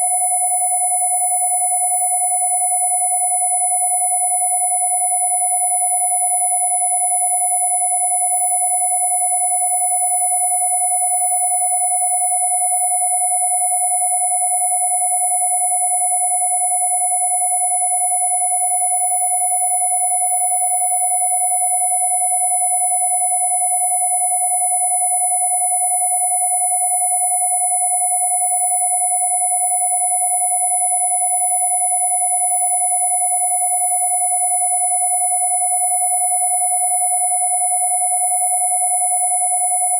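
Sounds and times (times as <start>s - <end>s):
electronic sine tone: 0.0s - 39.9s
very high sine tone: 0.0s - 39.9s.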